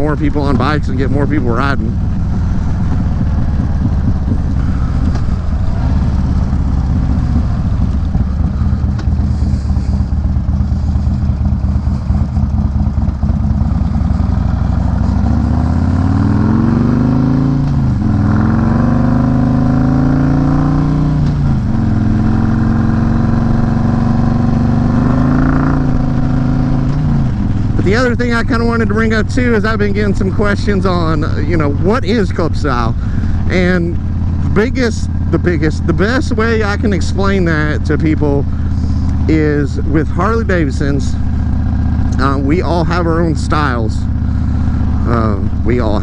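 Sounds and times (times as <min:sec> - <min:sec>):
motorcycle engine rumbling: 0:00.0 - 0:46.0.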